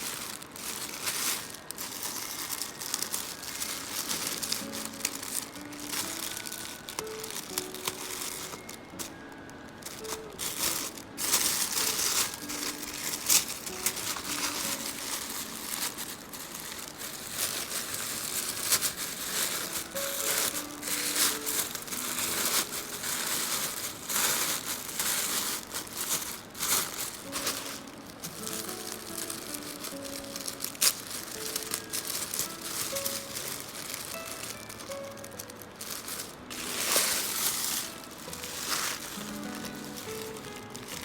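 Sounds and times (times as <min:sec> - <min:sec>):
paper packaging crinkling: 0:00.0 - 0:41.0
quiet background music: 0:00.0 - 0:41.0.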